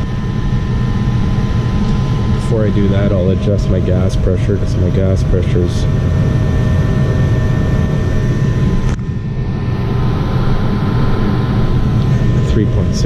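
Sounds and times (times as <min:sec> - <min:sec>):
furnace rumble: 0:00.0 - 0:13.0.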